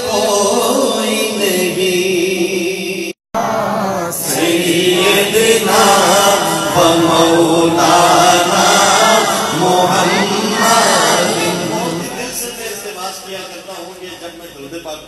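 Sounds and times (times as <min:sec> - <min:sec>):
man singing into a microphone: 0:00.0 - 0:12.8.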